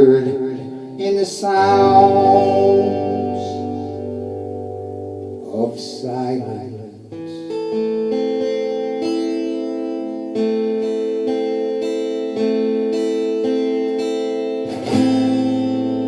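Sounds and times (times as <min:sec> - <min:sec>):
twelve-string guitar picking chords: 0:00.0 - 0:16.0.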